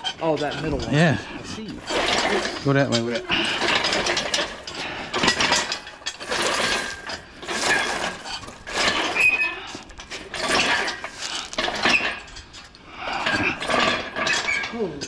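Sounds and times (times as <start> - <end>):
metal frame clanking: 0.0 - 15.0
wheels scraping over concrete: 0.0 - 15.0.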